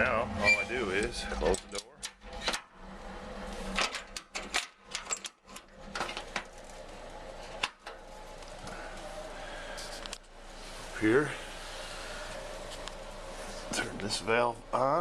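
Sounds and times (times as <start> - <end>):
heater burner fan rushing: 0.0 - 15.0.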